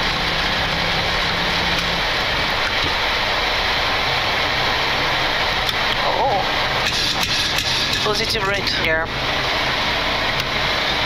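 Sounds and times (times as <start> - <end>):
jet engine and airflow rush: 0.0 - 11.0.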